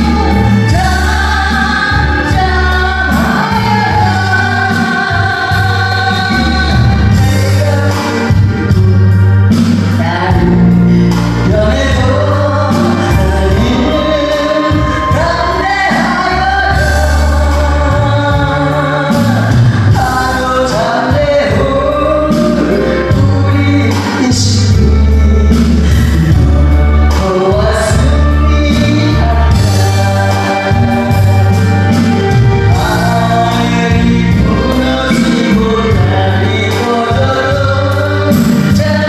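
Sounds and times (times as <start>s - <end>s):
band accompaniment with bass: 0.0s - 39.0s
person singing gospel song: 0.0s - 39.0s.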